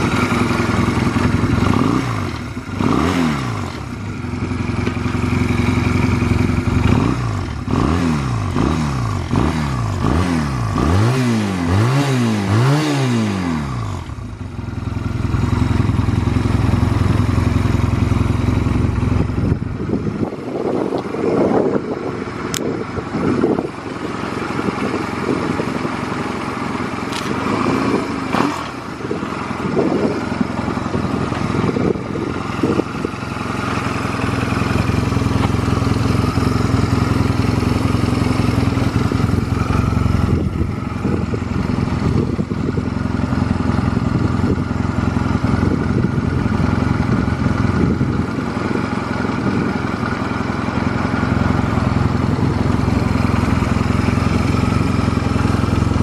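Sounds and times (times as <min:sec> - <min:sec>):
engine knocks and clatters: 0:00.0 - 0:56.0
motorcycle engine idling: 0:00.0 - 0:56.0.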